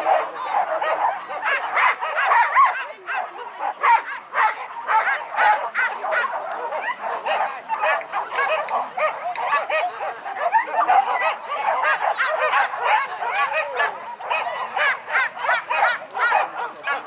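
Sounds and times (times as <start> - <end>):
dogs yelping: 0.0 - 17.0.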